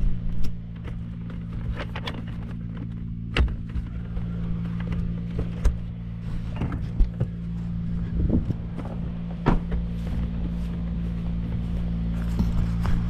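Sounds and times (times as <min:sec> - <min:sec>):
aerial lift engine running: 0:00.0 - 0:13.0.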